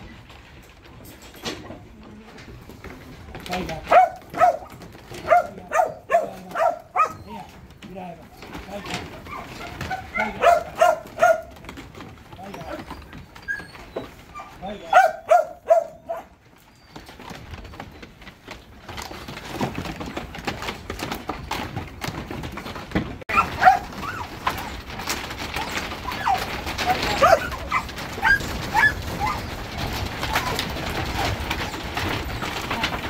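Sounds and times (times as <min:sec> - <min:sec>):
sheep hooves on wooden floor: 0:00.0 - 0:33.0.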